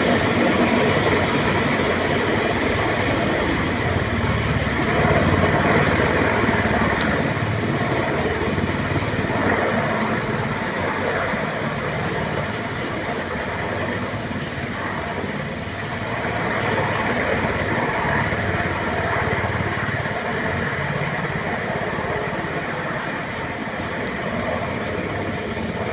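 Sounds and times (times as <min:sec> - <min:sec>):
helicopter rotor and turbine: 0:00.0 - 0:25.9
thin high whine: 0:00.0 - 0:25.9.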